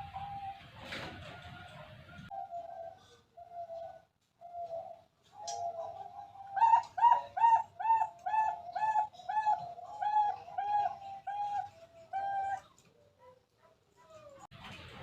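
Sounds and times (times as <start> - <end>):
dove cooing: 1.3 - 13.4.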